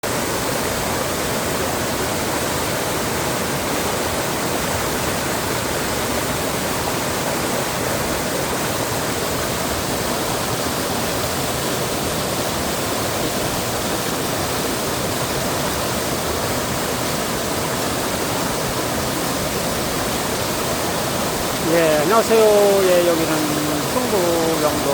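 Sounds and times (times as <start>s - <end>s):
stream water rushing: 0.0s - 24.9s.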